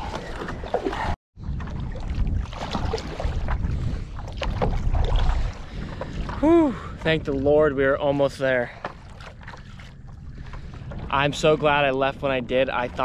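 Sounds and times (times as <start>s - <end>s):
water splashing against paddleboard: 0.0s - 7.5s, 8.6s - 13.0s
wind buffeting microphone: 0.0s - 13.0s.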